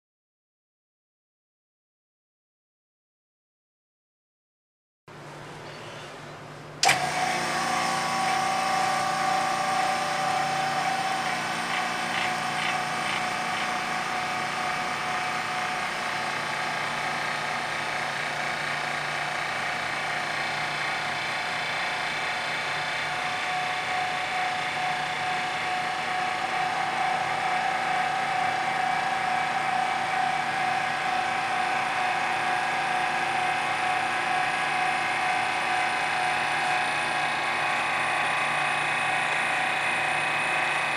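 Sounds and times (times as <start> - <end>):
vacuum pump droning: 5.2 - 40.9.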